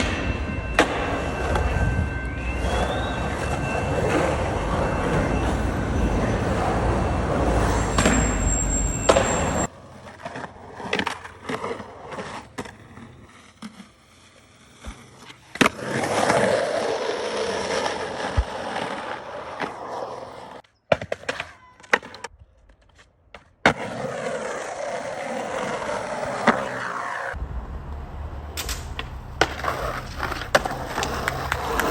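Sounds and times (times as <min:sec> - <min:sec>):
skateboard clacking on ground: 0:00.0 - 0:27.4, 0:28.5 - 0:31.9
skateboard wheels rolling: 0:00.0 - 0:31.9.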